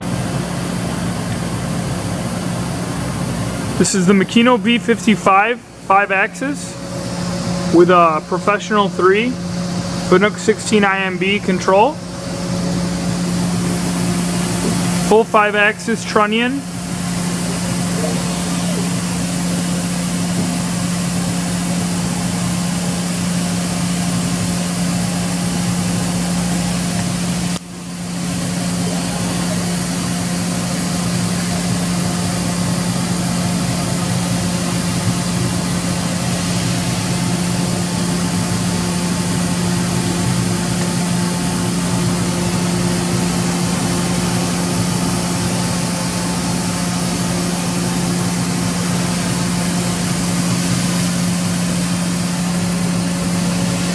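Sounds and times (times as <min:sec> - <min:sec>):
machining center humming: 0:00.0 - 0:53.9.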